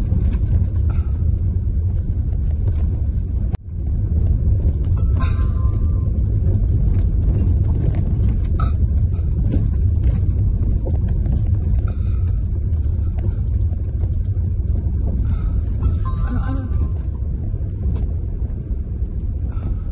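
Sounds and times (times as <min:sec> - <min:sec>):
car tyres and engine rumble: 0:00.0 - 0:19.9.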